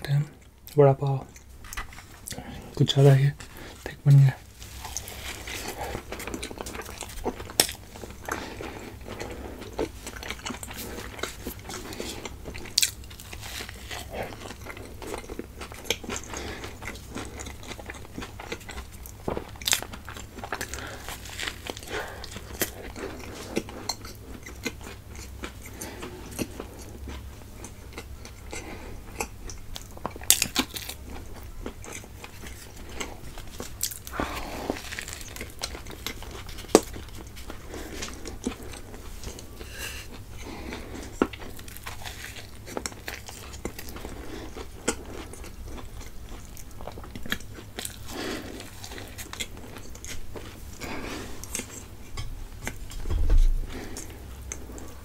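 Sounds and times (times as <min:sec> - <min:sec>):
crunchy chewing: 0:00.3 - 0:55.0.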